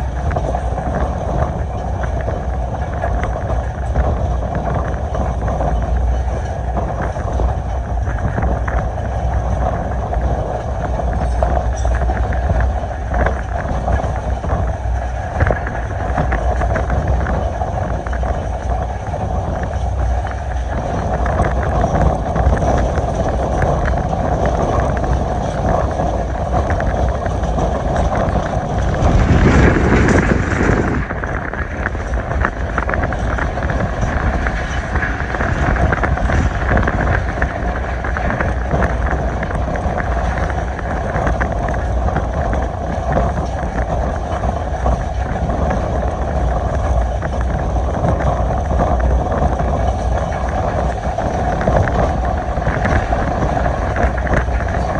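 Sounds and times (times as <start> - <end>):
train rolling rumble: 0.0 - 54.9
wind buffeting microphone: 0.0 - 54.9.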